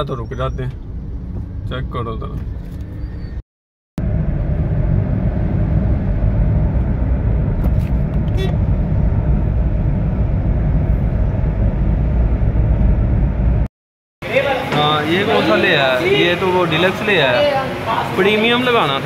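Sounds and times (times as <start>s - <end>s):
car engine and road noise: 0.0s - 3.4s, 4.0s - 19.0s.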